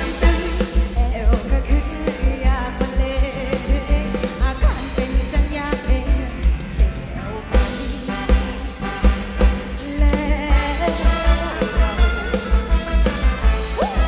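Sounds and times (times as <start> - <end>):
person singing: 0.0 - 14.0
steady drum beat: 0.0 - 14.0.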